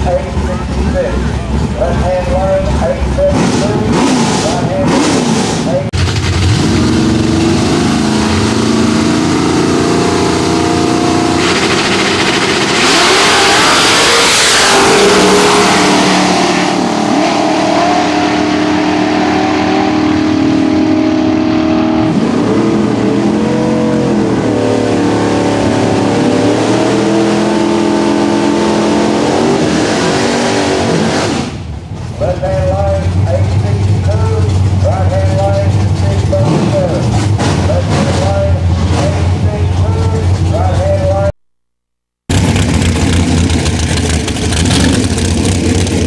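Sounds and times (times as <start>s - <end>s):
drag racing engines: 0.0s - 41.4s, 42.2s - 46.0s.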